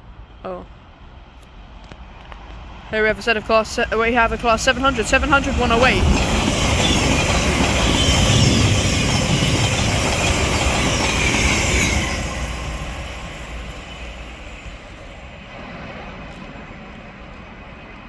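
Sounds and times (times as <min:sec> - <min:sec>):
electric train running past: 0:00.0 - 0:18.0.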